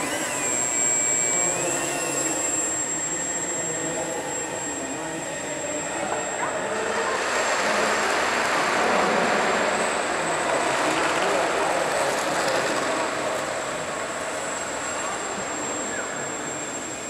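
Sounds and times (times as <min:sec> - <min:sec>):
model airplane motor whine: 0:00.0 - 0:17.0.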